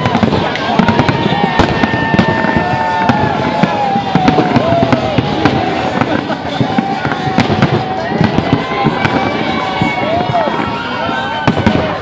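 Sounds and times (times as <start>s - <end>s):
fireworks bangs and crackles: 0.0s - 12.0s
people's voices: 0.0s - 12.0s.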